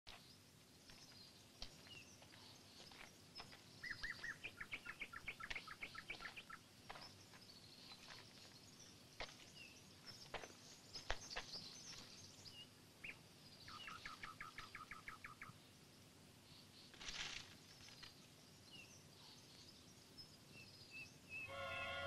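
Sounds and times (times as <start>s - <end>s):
small birds chirping: 0.1s - 21.6s.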